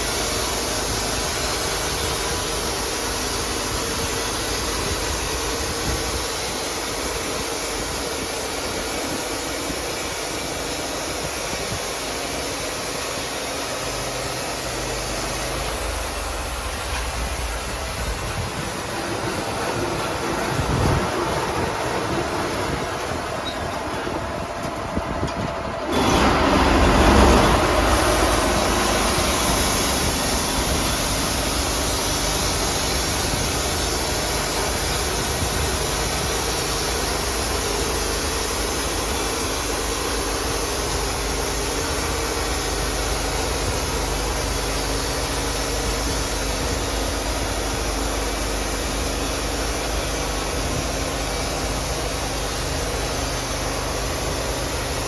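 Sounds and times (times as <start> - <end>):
sawmill running: 0.0 - 55.0.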